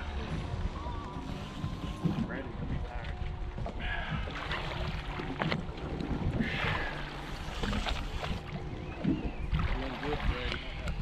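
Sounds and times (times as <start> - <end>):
water sloshing against boat hull: 0.3 - 11.0
wind buffeting microphone: 1.7 - 11.0.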